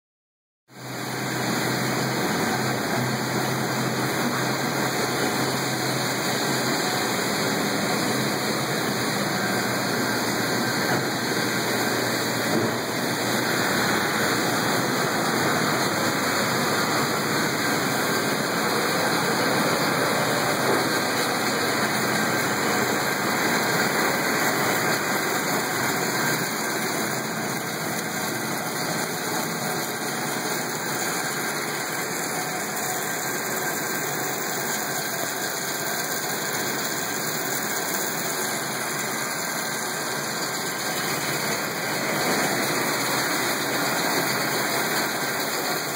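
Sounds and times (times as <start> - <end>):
shaker machinery running: 0.8 - 45.9
water gushing into a tank: 0.8 - 45.9.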